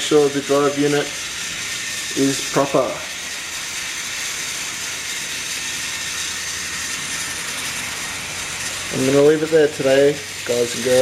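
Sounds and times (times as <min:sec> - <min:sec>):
toy train motor whirring: 0:00.0 - 0:11.0.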